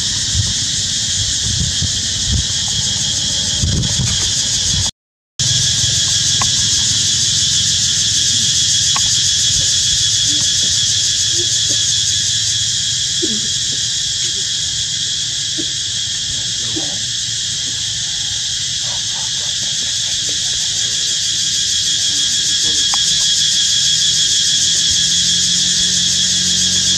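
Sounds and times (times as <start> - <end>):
insect chorus buzzing: 0.0 - 26.9.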